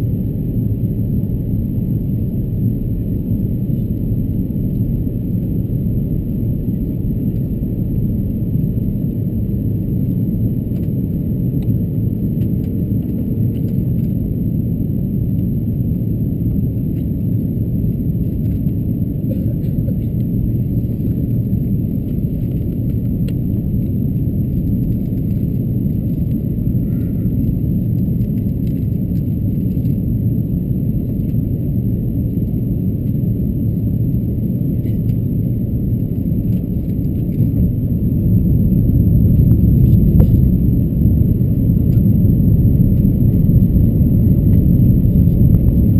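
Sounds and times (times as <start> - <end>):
aircraft cabin rumble: 0.0 - 45.9.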